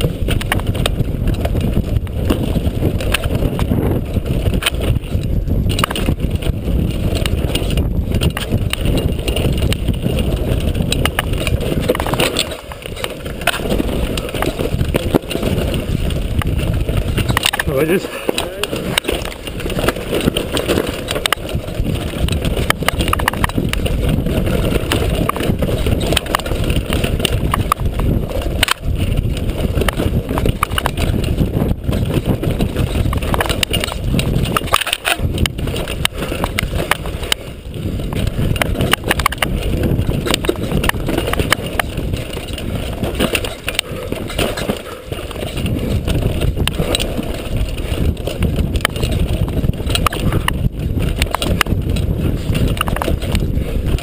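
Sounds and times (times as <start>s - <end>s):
bike rattling and knocking: 0.0s - 54.0s
wind on microphone: 0.0s - 54.0s.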